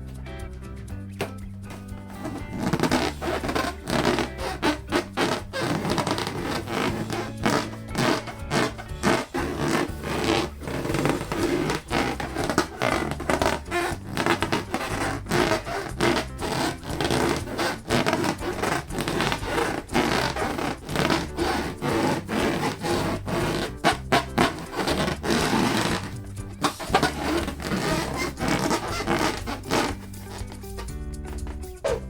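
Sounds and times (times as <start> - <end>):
balloons rubbed and squeezed: 2.1 - 32.0.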